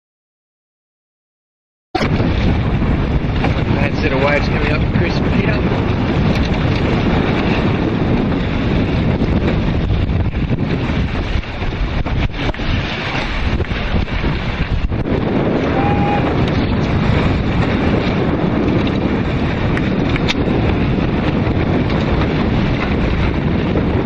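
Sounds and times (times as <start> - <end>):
wind buffeting microphone: 2.0 - 24.0.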